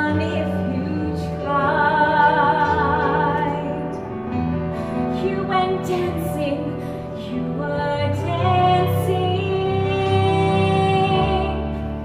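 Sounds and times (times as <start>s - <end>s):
woman singing: 0.0s - 4.4s, 5.0s - 12.0s.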